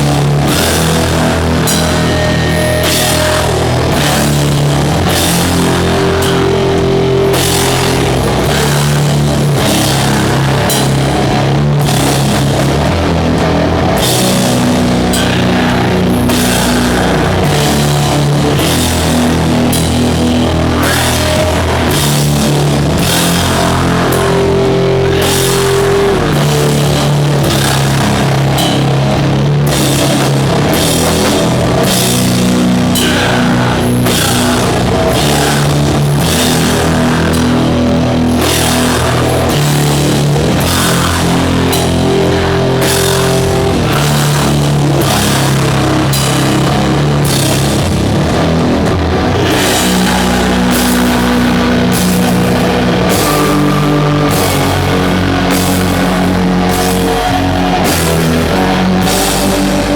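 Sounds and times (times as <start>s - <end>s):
distorted guitars and bass chords: 0.0s - 59.9s.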